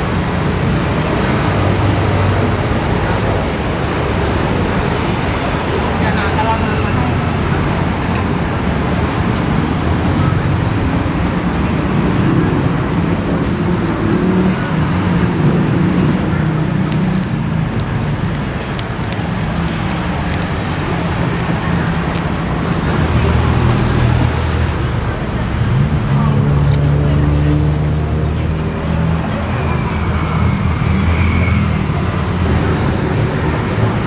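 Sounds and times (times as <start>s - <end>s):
street traffic rumble: 0.0s - 34.0s.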